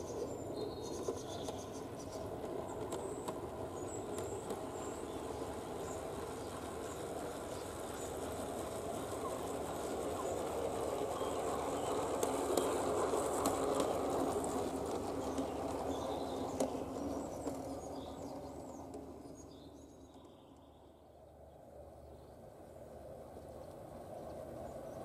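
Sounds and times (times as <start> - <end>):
model streetcar rumbling on track: 0.0 - 25.0.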